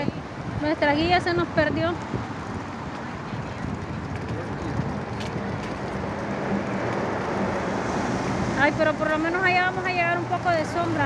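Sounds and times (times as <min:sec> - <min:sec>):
traffic noise: 0:00.0 - 0:11.0
wind on microphone: 0:00.0 - 0:11.0
bus engine running: 0:01.1 - 0:11.0.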